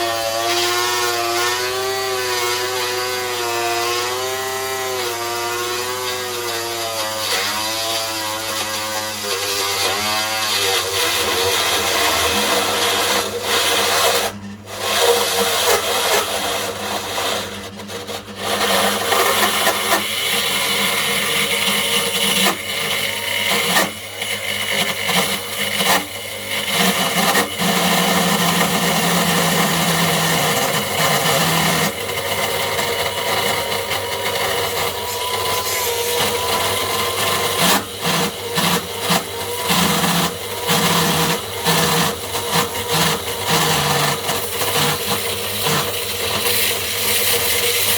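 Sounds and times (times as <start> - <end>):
sewing machine motor running roughly: 0.0 - 47.9.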